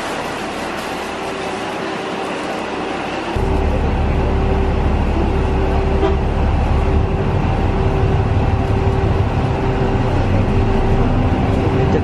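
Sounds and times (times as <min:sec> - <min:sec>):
bus engine rumble: 0:00.0 - 0:12.0
constant hum: 0:00.0 - 0:12.0.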